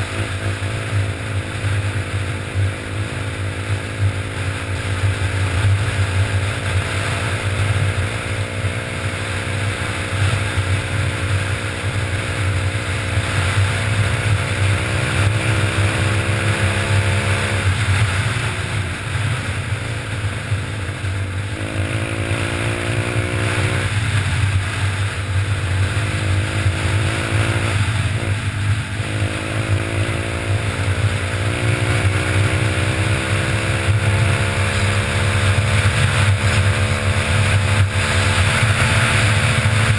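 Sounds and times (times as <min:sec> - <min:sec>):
motorbike engine running: 0:00.0 - 0:39.9.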